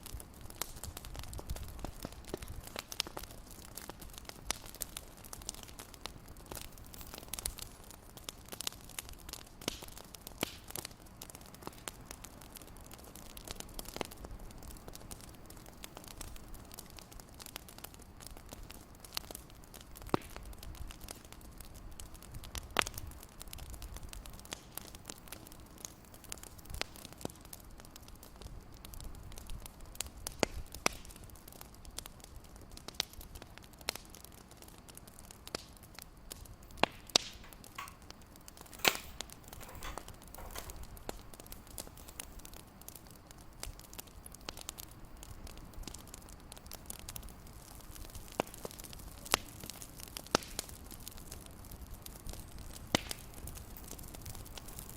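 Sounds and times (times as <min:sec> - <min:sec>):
steady fire hiss: 0:00.0 - 0:54.9
wood fire crackling: 0:00.0 - 0:54.9.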